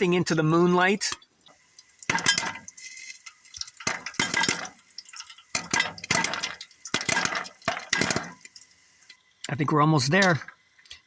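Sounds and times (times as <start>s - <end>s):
popcorn popping in oil: 0.0s - 11.0s.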